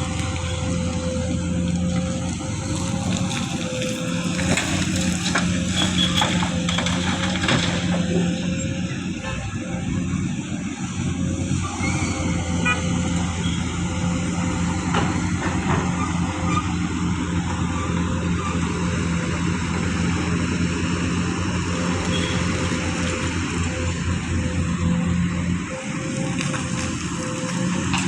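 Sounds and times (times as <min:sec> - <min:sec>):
heavy vehicle engine running: 0:00.0 - 0:28.0.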